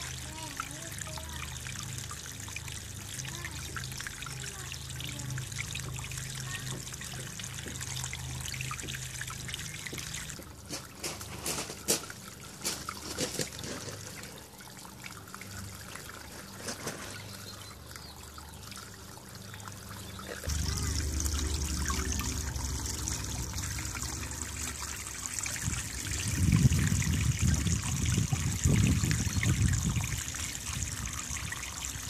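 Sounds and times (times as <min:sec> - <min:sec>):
water pouring over rocks: 0:00.0 - 0:32.0.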